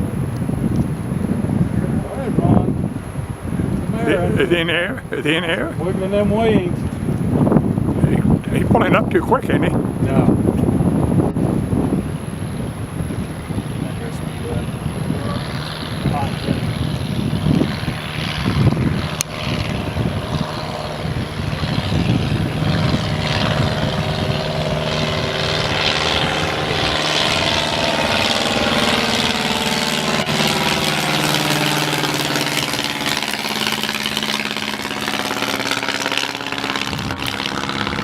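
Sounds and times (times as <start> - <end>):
airplane engine and propeller droning: 0.0 - 38.0.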